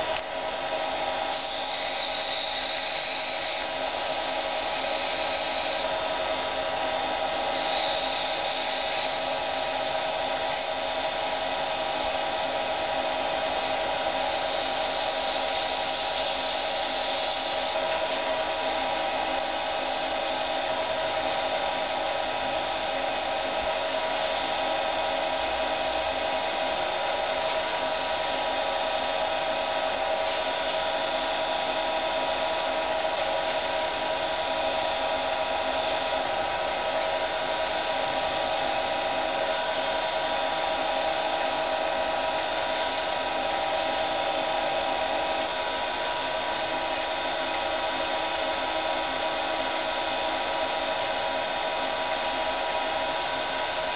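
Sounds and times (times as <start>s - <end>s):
wood lathe motor humming: 0.0s - 53.9s.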